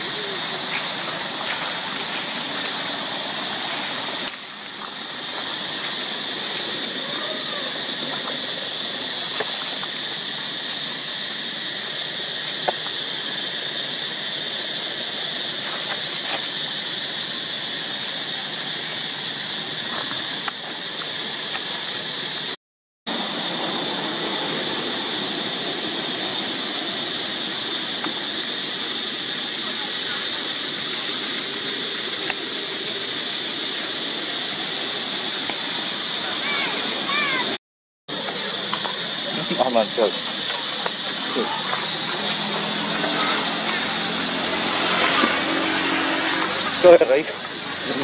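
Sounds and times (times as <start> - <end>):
cicadas droning: 0.0 - 48.0.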